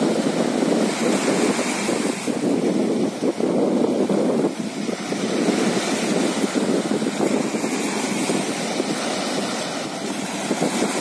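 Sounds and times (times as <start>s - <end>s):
waves washing onto rocky shore: 0.0s - 11.0s
wind on microphone: 0.0s - 11.0s.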